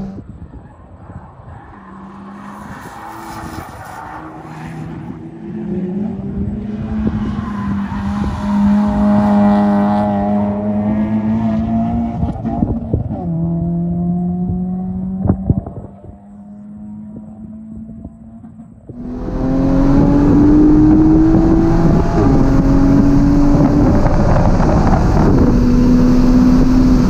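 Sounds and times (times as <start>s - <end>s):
race car engine passing: 0.9s - 18.1s, 19.0s - 27.0s.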